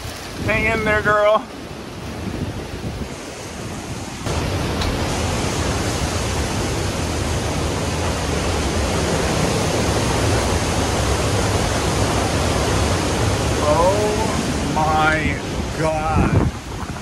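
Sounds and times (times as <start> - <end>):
hurricane wind and driving rain: 0.0 - 17.0.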